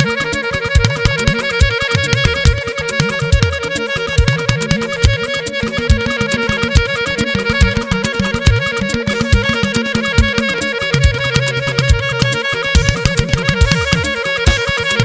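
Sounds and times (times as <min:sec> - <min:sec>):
held lead melody: 0:00.0 - 0:15.0
moving bass line: 0:00.0 - 0:15.0
rhythmic percussion: 0:00.0 - 0:15.0.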